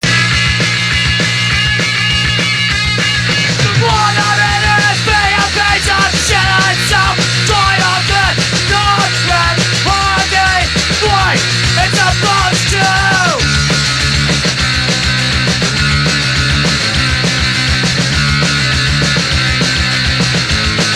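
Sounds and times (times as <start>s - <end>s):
bass: 0.0s - 20.9s
bending lead melody: 0.0s - 20.9s
driving drums: 0.0s - 20.9s
punk rock band music: 0.0s - 20.9s.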